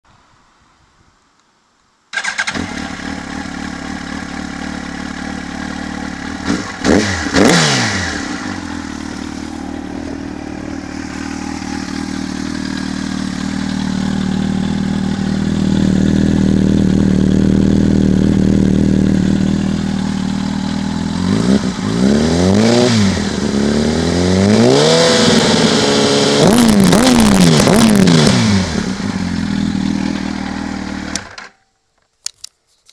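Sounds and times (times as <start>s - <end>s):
motorcycle engine revving: 2.2s - 31.5s.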